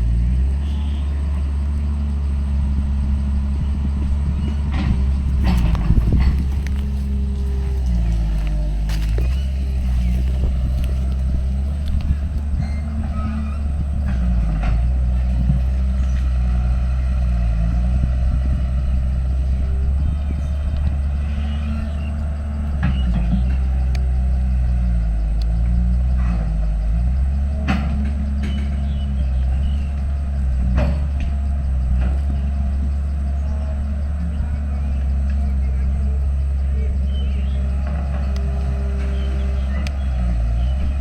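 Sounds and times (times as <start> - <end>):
diesel engine under changing load: 0.0 - 41.0.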